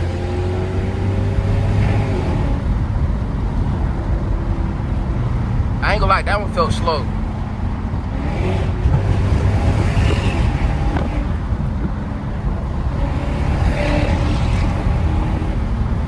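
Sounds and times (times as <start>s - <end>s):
car exhaust drone: 0.0s - 16.0s
road noise: 0.0s - 16.0s
wind noise: 0.0s - 16.0s.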